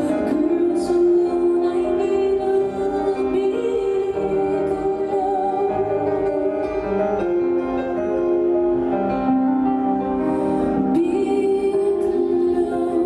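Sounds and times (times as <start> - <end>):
slow music with held notes: 0.0 - 13.0.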